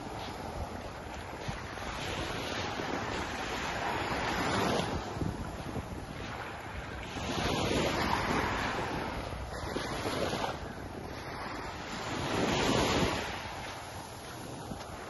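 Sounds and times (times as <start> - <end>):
small waves breaking on sand: 0.0 - 15.0
wind buffeting microphone: 0.0 - 15.0.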